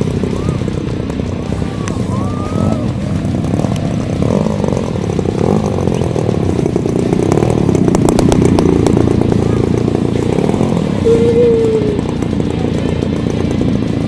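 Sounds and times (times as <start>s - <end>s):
model plane petrol engine running: 0.0s - 14.0s.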